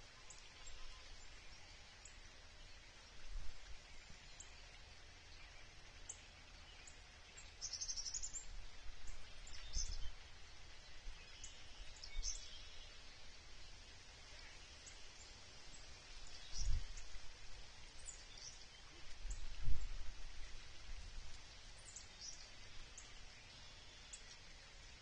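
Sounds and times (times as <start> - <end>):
small birds chirping: 0.0 - 25.0
steady background hiss: 0.0 - 25.0.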